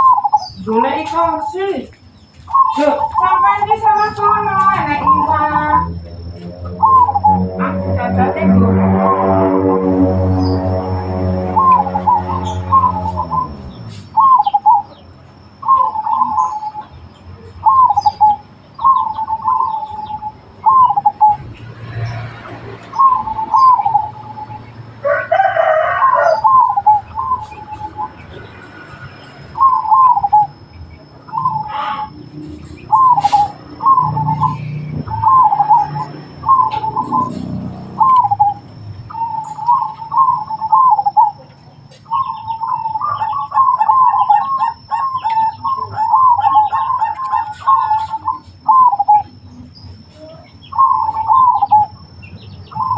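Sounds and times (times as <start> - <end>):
dove cooing: 0.0 - 1.6, 2.5 - 16.9, 17.5 - 21.4, 22.9 - 28.4, 29.5 - 49.4, 50.1 - 52.9.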